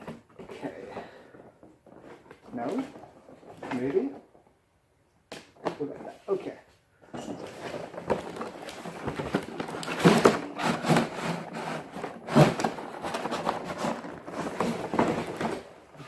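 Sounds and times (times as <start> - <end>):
cardboard rustling and scraping: 0.0 - 4.3, 7.1 - 16.0.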